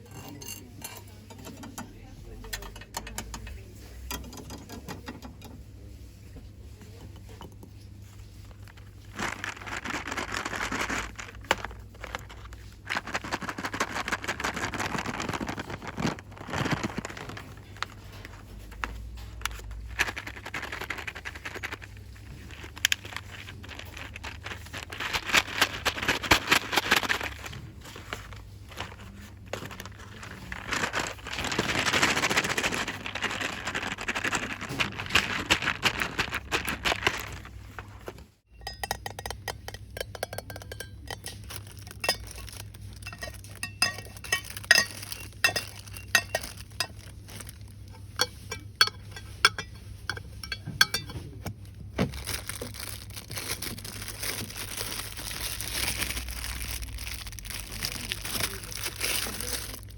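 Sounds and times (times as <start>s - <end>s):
packaging rustling and crinkling: 8.0s - 38.4s, 41.2s - 59.9s.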